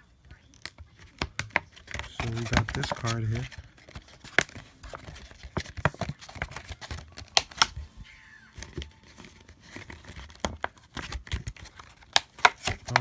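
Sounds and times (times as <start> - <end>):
plastic blister pack crackling: 0.0 - 13.0.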